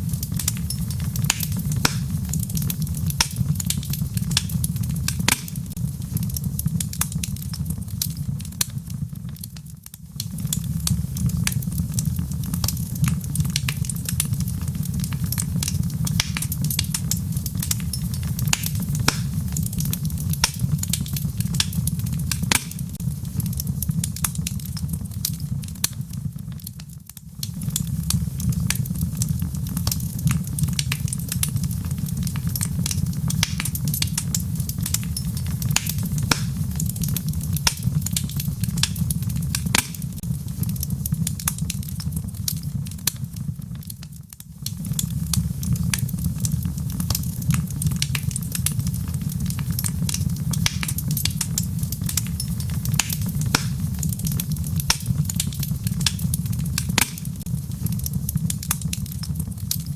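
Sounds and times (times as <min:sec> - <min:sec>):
logs crackling and popping: 0:00.0 - 0:59.9
low rumble of flame: 0:00.0 - 0:59.9.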